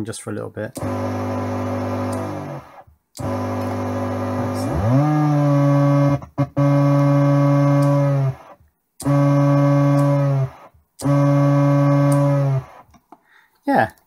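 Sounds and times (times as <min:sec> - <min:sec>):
low buzzing oscillator tone: 0:00.8 - 0:12.7.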